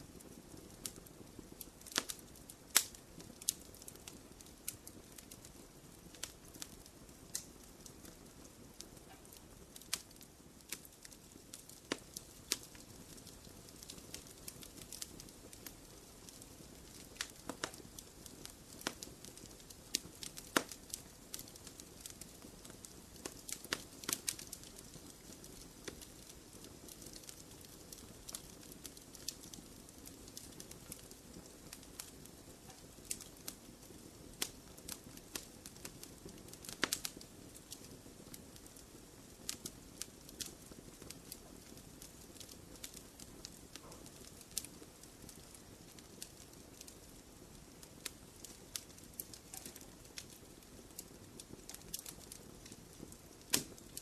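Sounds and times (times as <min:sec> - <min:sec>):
low rush of flames: 0:00.0 - 0:54.0
wood fire crackling and popping: 0:00.0 - 0:54.0.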